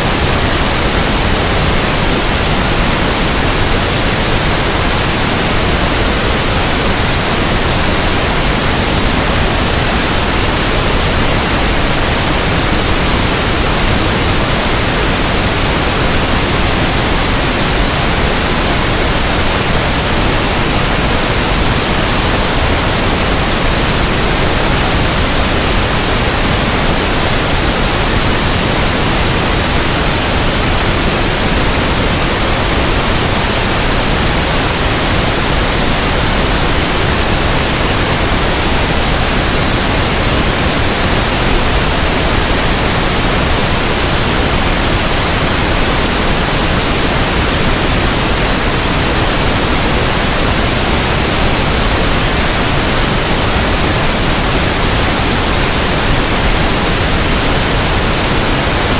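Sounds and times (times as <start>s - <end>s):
steady pink noise hiss: 0.0s - 58.9s.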